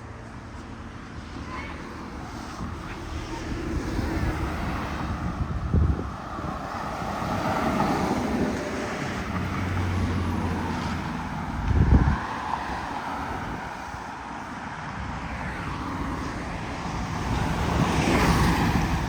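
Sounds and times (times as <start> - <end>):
wind buffeting microphone: 1.8 - 19.0.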